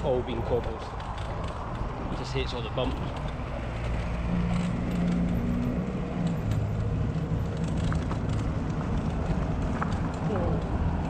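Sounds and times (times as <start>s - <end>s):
bicycle rattling over cobblestones: 0.0s - 11.0s.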